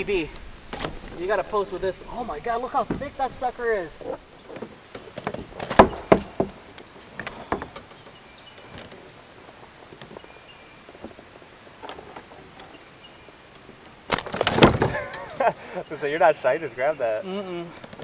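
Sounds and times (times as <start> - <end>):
faint background noise: 0.0 - 18.0.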